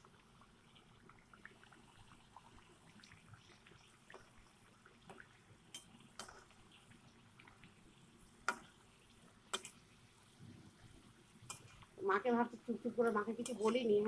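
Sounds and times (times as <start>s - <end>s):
dough sizzling in hot oil: 0.0s - 14.0s.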